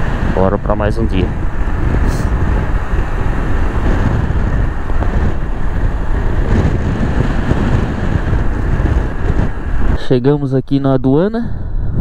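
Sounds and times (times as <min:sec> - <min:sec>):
motorcycle engine: 0:00.0 - 0:10.0
road noise: 0:00.0 - 0:12.0
wind buffeting microphone: 0:00.0 - 0:12.0.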